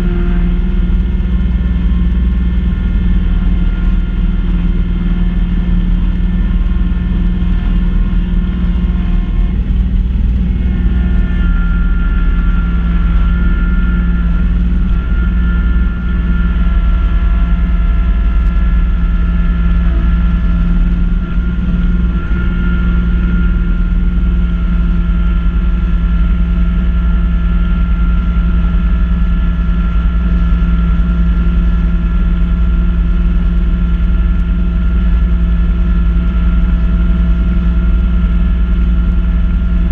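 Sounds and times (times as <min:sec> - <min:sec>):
high steady whine: 0:00.0 - 0:39.9
tractor diesel engine drone: 0:00.0 - 0:39.9.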